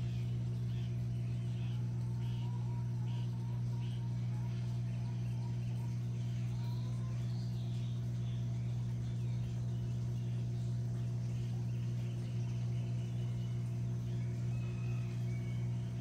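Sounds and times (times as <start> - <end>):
faint bird chirps: 0.0 - 16.0
steady low hum: 0.0 - 16.0.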